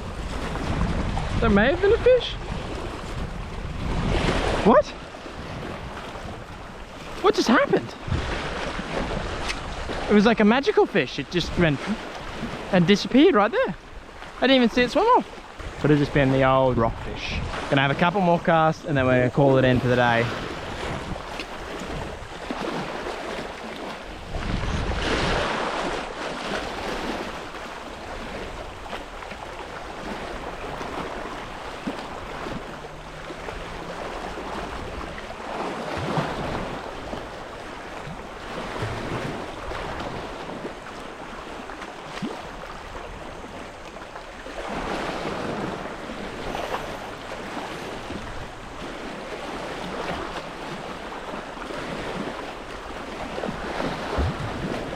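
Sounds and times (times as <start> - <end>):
wind buffeting microphone: 0.0 - 12.8, 13.4 - 54.9
surf on rocky shore: 0.0 - 54.9.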